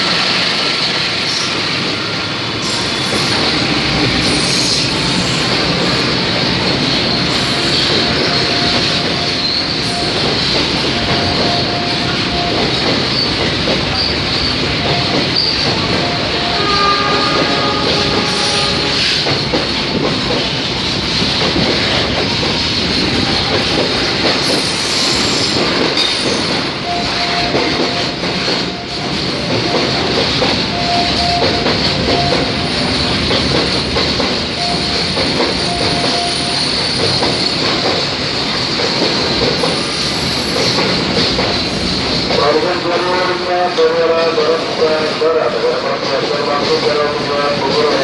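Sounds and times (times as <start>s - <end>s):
clickety-clack over rail joints: 0.0s - 48.0s
train wheels rumbling on rails: 0.0s - 48.0s.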